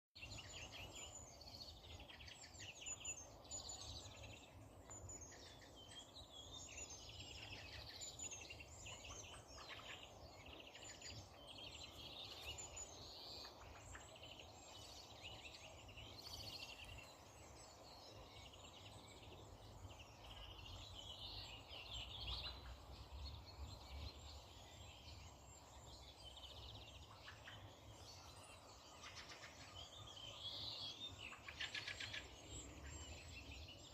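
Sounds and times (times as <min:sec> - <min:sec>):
songbirds singing: 0:00.2 - 0:33.9.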